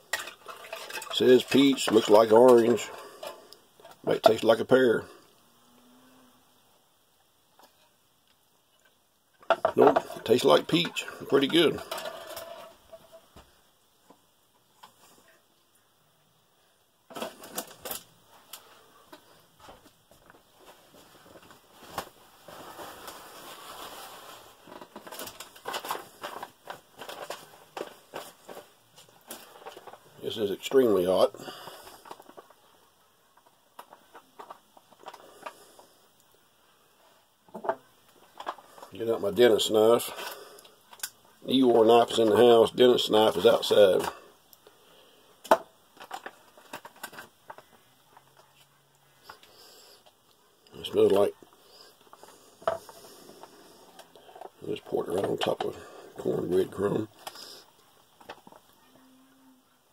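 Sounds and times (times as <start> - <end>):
food packaging rustling and crinkling: 0.0 - 5.2, 8.8 - 15.4, 17.1 - 58.9.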